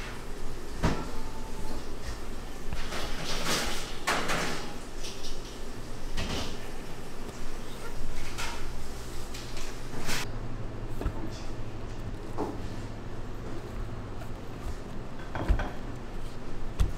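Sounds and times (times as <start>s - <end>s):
food preparation handling noises: 0.0s - 16.9s
kitchen equipment hum: 0.0s - 16.9s.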